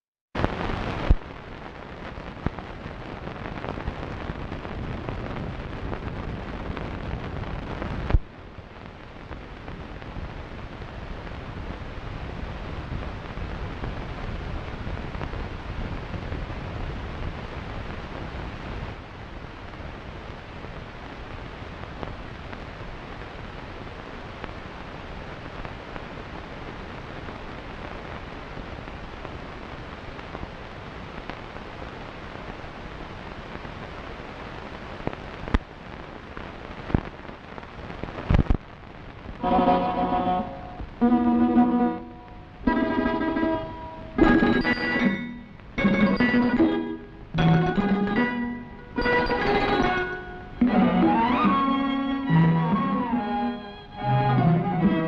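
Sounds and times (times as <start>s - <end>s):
film soundtrack hiss and rumble: 0.4s - 55.0s.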